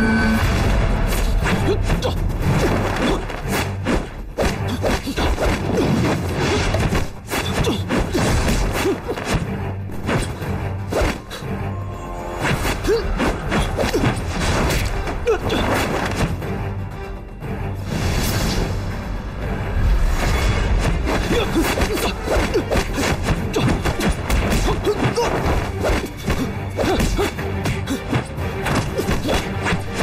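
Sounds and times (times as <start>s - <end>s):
dramatic fight music: 0.0s - 30.0s.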